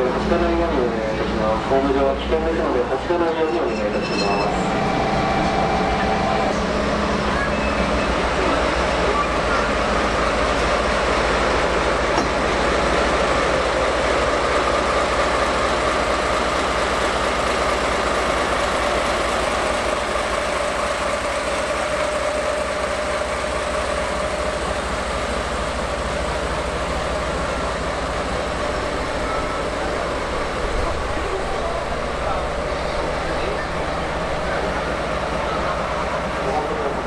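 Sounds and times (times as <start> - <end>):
diesel locomotive idling: 0.0 - 37.0.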